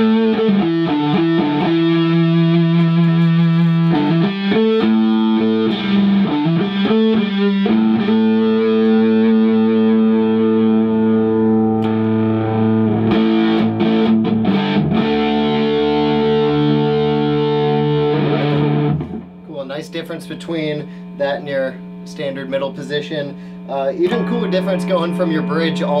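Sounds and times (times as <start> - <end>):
electric guitar chords strummed: 0.0 - 26.0.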